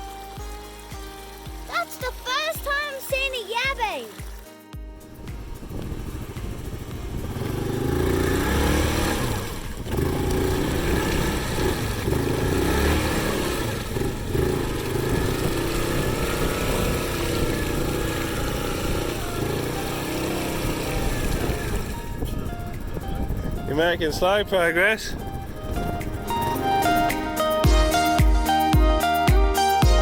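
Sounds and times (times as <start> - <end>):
motorbike engine revving: 4.2 - 28.6.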